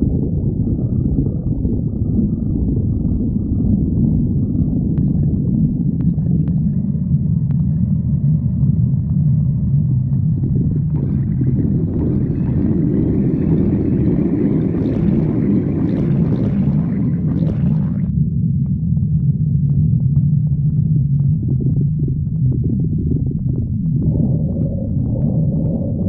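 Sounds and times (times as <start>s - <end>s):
stomach growling rumble: 0.0s - 26.0s
stomach gurgling: 0.0s - 26.0s.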